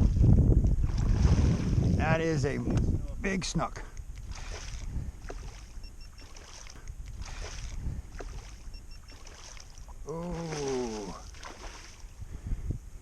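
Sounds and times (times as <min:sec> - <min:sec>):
water noise around kayak: 0:00.0 - 0:02.3, 0:03.9 - 0:13.0
wind rumbling on microphone: 0:00.0 - 0:09.0, 0:09.7 - 0:13.0.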